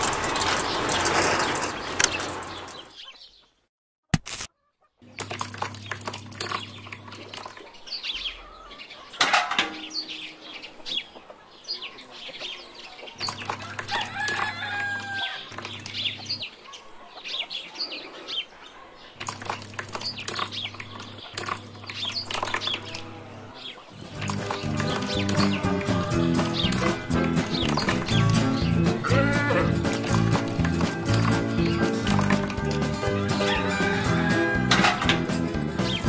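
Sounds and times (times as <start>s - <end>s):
small birds chirping: 0.3s - 3.7s, 4.6s - 34.0s, 35.8s - 36.0s
chickens clucking: 4.6s - 36.0s.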